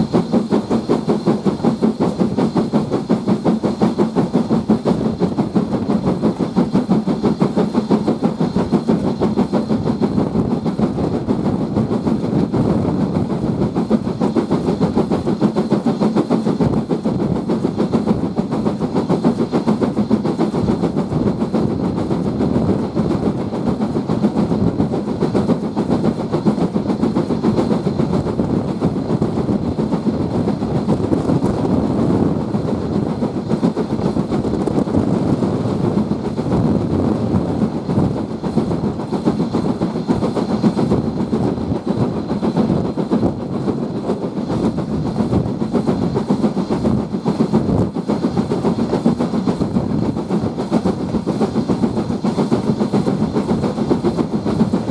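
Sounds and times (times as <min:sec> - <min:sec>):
steam locomotive exhaust beating: 0:00.0 - 0:54.9
train wheels running on rails: 0:00.0 - 0:54.9.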